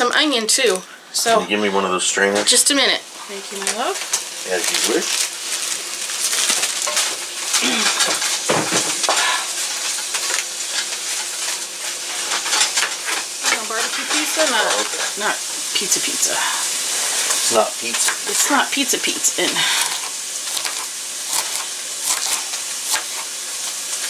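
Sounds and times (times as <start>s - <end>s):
chicken sizzling in a skillet: 2.4s - 24.0s.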